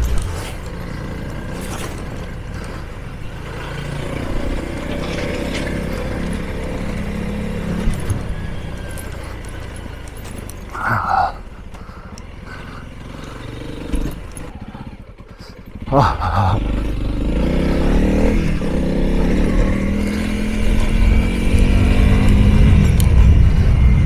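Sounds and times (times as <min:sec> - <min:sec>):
gravel clicking under tyres: 0:00.0 - 0:24.0
motorcycle engine running: 0:00.0 - 0:24.0.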